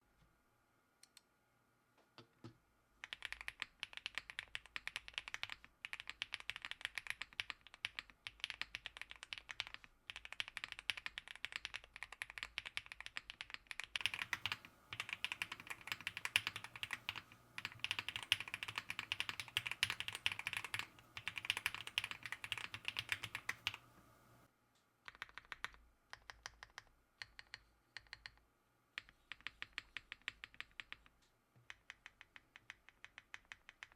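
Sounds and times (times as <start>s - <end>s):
mechanical keyboard typing: 3.0s - 23.9s, 25.1s - 28.4s, 29.0s - 33.9s.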